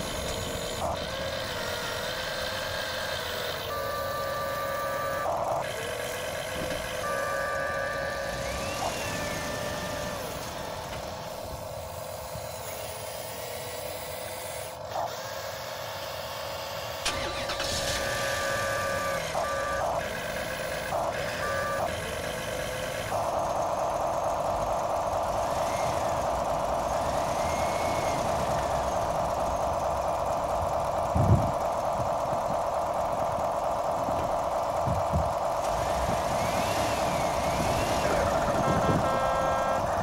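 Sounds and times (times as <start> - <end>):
toy excavator motors whining: 0.0 - 40.0.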